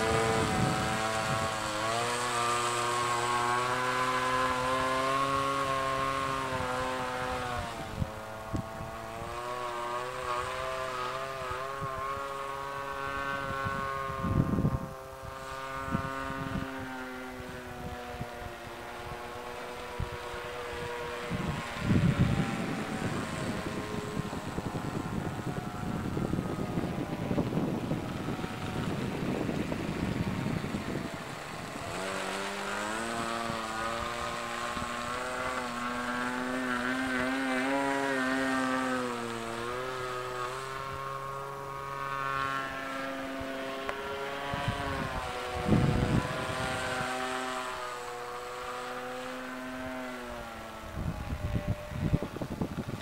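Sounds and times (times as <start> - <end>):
model aircraft engine buzzing: 0.0 - 53.0
wind rumbling on microphone: 0.0 - 53.0.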